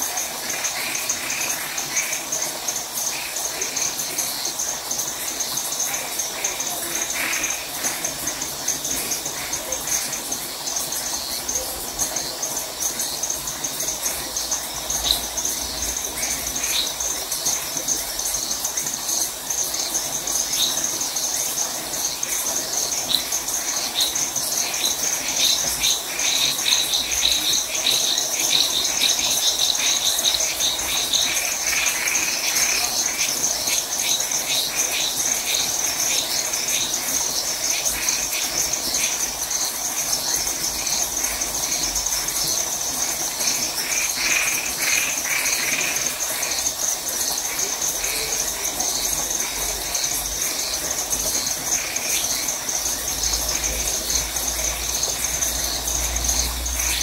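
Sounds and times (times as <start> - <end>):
crickets trilling: 0.0 - 57.0
frogs calling: 0.0 - 57.0.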